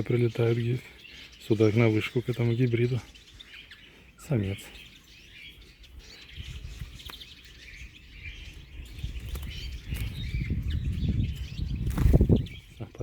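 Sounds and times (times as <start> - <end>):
finches chirping and twittering: 0.0 - 13.0.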